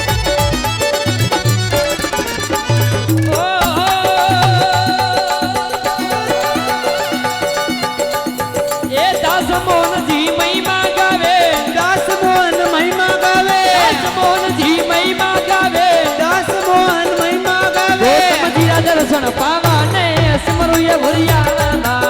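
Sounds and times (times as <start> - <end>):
folk song accompaniment with percussion: 0.0 - 22.0.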